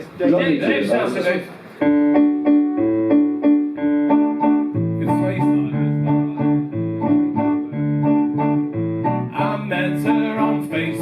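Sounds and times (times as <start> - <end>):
keyboard playing waltz chords: 1.8 - 11.0.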